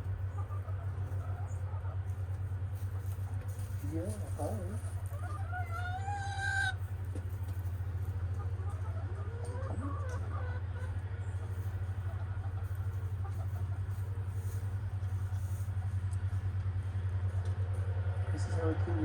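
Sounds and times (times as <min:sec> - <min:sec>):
hens clucking: 0:00.0 - 0:19.0
steady low hum: 0:00.0 - 0:19.0.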